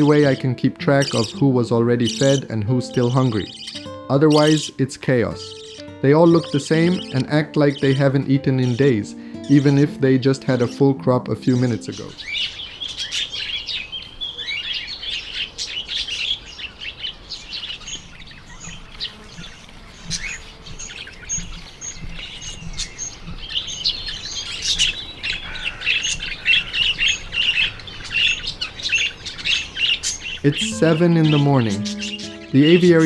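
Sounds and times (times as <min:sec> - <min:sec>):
budgerigars chattering: 0:00.0 - 0:10.7, 0:11.4 - 0:33.0.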